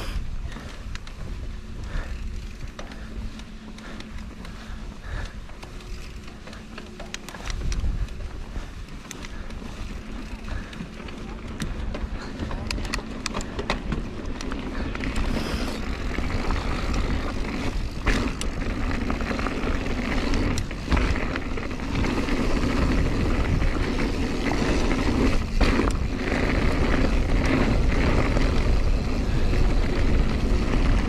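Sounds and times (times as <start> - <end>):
bike knocking and rattling: 0.0 - 31.0
wind and tyre rumble: 0.0 - 31.0.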